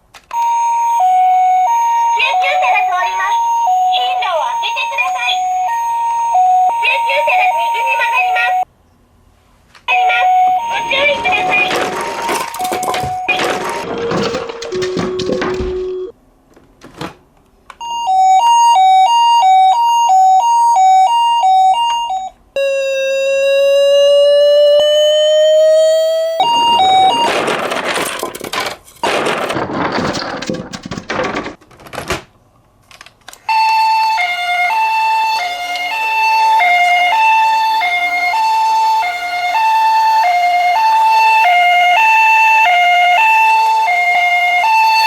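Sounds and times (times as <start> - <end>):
two-tone ambulance siren: 0.3 - 8.7, 9.9 - 16.1, 17.8 - 28.2, 33.5 - 45.0
wailing siren: 0.3 - 8.7, 9.9 - 16.1, 17.8 - 28.2, 33.5 - 45.0.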